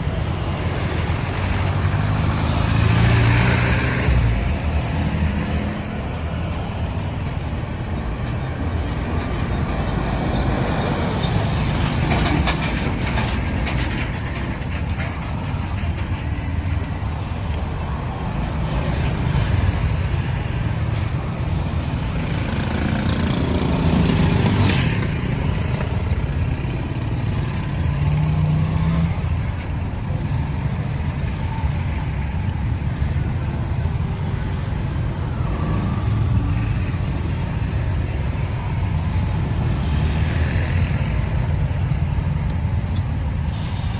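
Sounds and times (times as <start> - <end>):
road traffic rumble: 0.0 - 43.9
vehicle passing close: 0.0 - 43.9.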